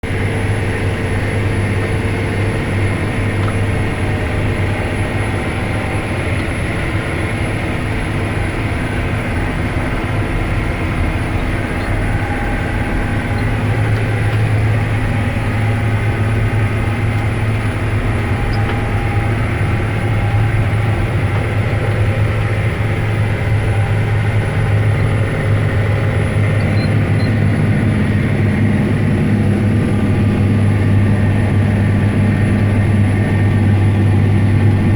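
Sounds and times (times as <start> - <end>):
tractor diesel engine droning: 0.0 - 34.9.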